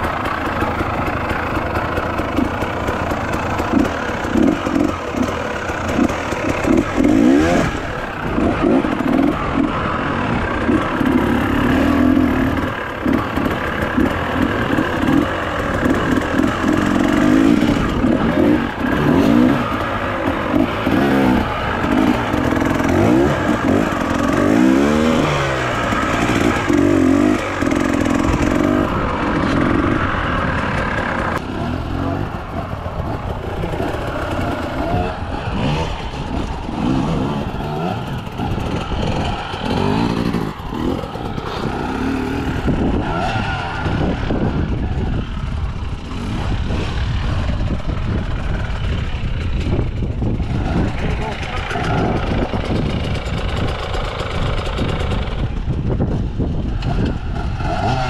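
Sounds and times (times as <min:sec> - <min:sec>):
bike rattling over bumps: 0:00.0 - 0:58.0
dirt bike engine revving: 0:00.0 - 0:58.0.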